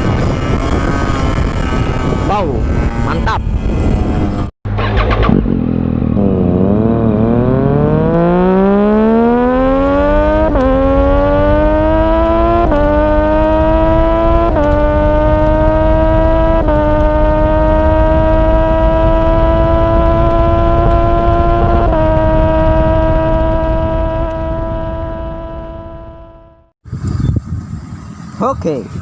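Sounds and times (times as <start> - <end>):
motorcycle engine accelerating: 0.0 - 28.4.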